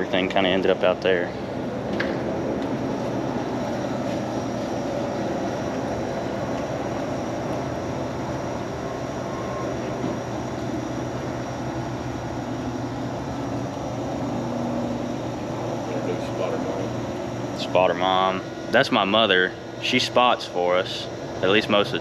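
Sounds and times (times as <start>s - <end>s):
water pump humming: 0.0s - 22.0s.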